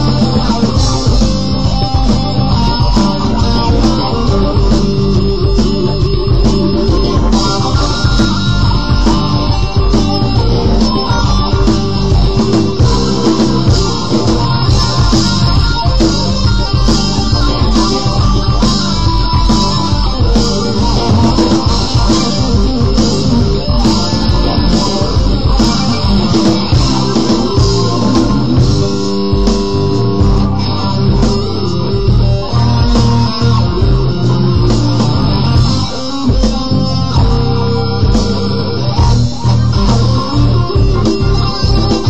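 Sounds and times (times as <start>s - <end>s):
electric guitar playing: 0.0s - 42.0s
rock backing track: 0.0s - 42.0s.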